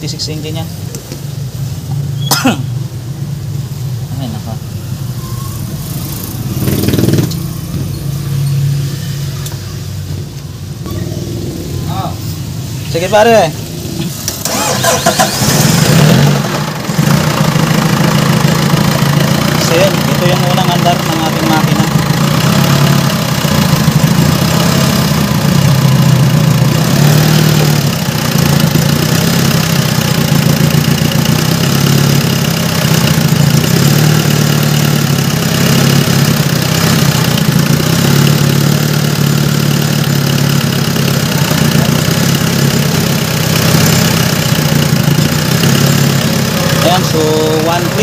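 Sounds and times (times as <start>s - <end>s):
diesel engine idling: 2.8s - 48.0s.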